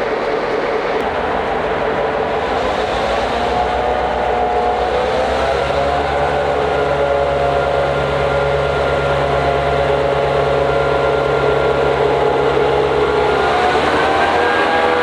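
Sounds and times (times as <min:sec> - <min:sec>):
diesel locomotive engine drone: 0:00.0 - 0:15.0
locomotive whine: 0:00.0 - 0:15.0.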